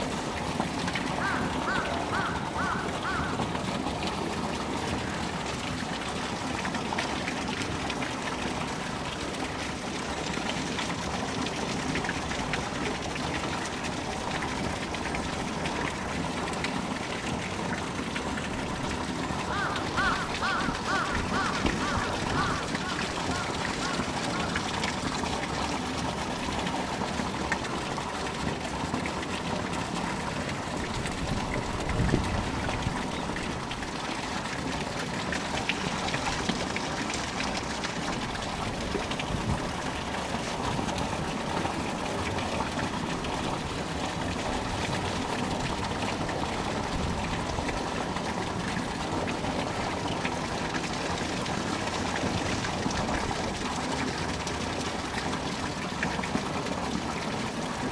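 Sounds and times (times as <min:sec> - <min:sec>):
running water: 0:00.0 - 0:57.9.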